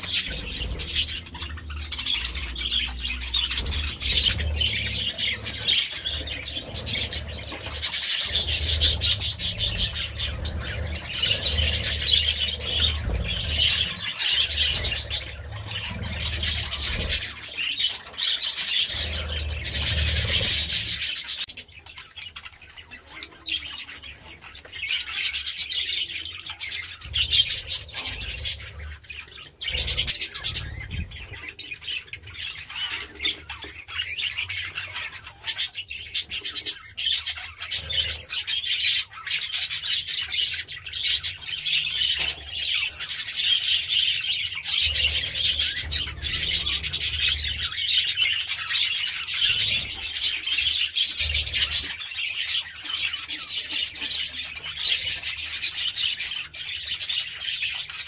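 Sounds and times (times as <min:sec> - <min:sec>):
bird squawks: 0:00.0 - 0:58.0
budgerigars chattering and warbling: 0:00.0 - 0:58.0.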